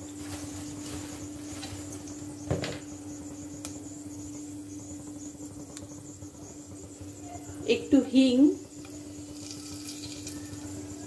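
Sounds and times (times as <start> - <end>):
spices crackling in hot oil: 0.0 - 11.0
steady low hum: 0.0 - 11.0.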